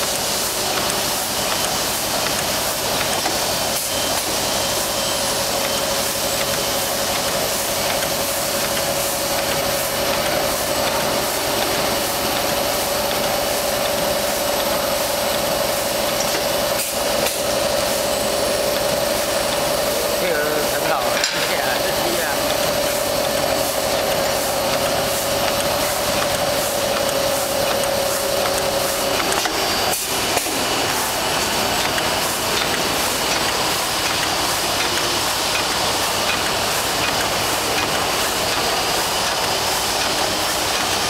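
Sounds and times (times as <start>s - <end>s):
constant machine whine: 0.0s - 41.0s
machine hiss and rumble: 0.0s - 41.0s.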